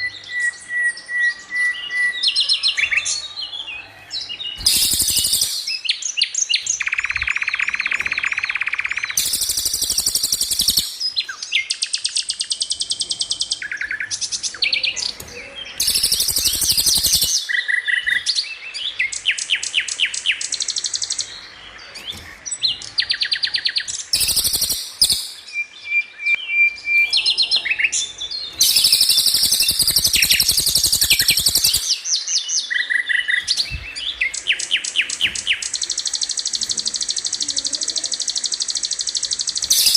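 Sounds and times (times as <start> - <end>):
bird song trills and chirps: 0.0 - 39.9.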